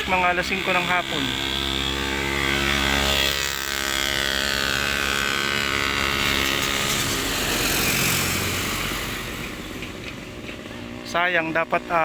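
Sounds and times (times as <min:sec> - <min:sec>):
vehicle driving past: 0:00.0 - 0:11.1.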